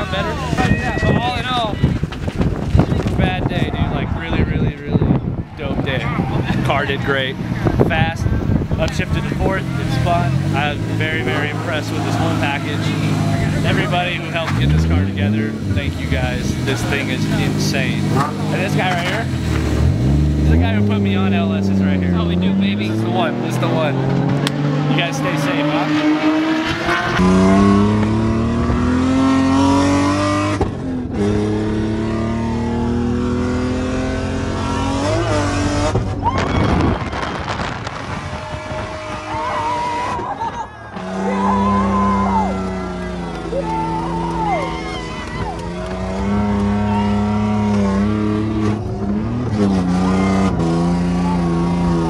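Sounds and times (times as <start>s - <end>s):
engine revving through gears: 8.8s - 36.2s, 37.0s - 40.3s, 40.9s - 52.0s.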